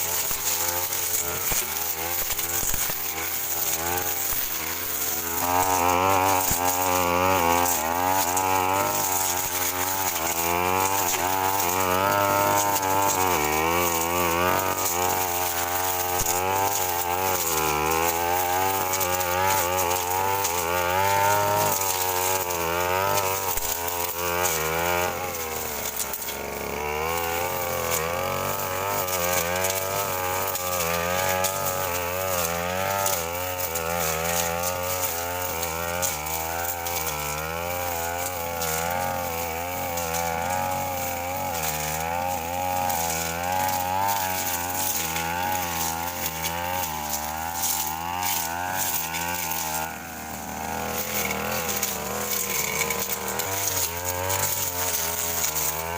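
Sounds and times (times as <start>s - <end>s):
brush cutter engine cutting brush: 0.0s - 55.9s.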